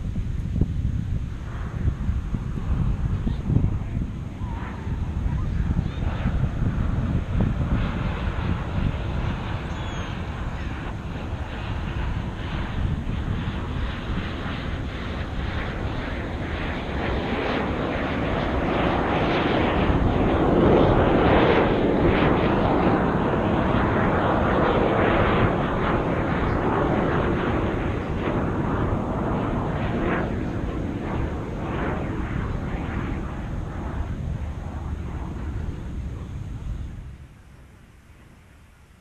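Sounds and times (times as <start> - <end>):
aircraft flying past: 0.0 - 39.0.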